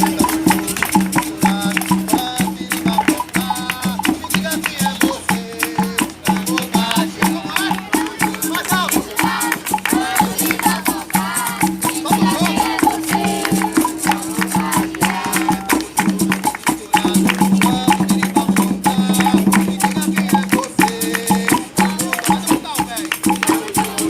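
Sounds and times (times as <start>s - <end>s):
berimbau notes: 0.0s - 20.1s
hand percussion: 0.0s - 24.0s
rattling shaker: 0.0s - 24.0s
voices singing: 0.0s - 24.0s.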